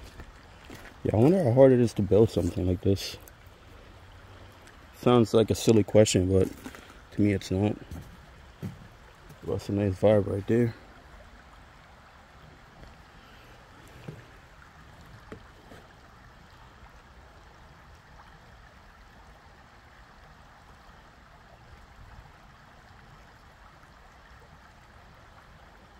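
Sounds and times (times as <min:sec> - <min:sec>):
creek flowing over rocks: 0:00.0 - 0:25.9.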